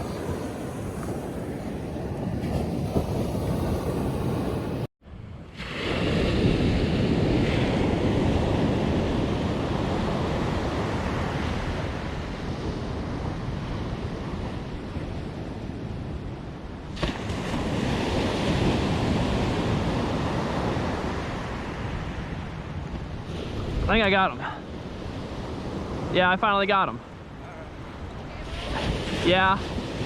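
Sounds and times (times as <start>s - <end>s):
wind buffeting microphone: 0.0s - 26.2s
ocean surf washing onto beach: 0.0s - 30.0s.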